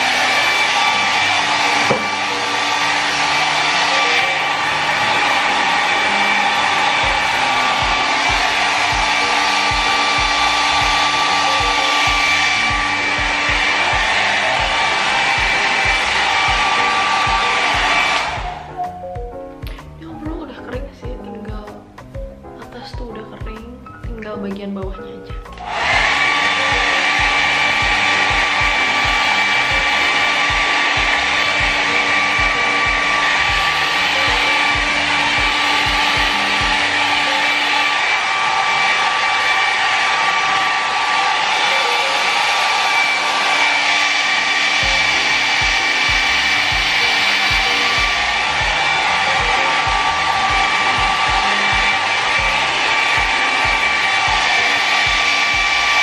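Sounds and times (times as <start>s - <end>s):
hair dryer blowing: 0.0s - 23.1s, 25.4s - 56.0s
background music with soft beat: 0.0s - 41.2s, 41.9s - 56.0s.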